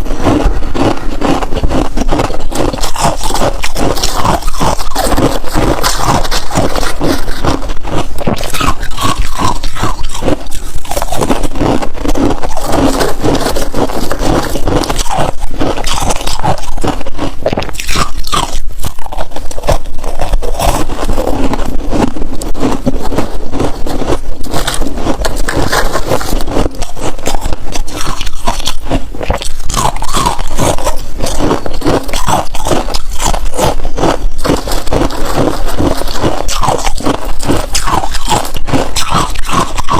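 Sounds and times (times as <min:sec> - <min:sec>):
frost crunching when bitten: 0:00.0 - 0:39.9.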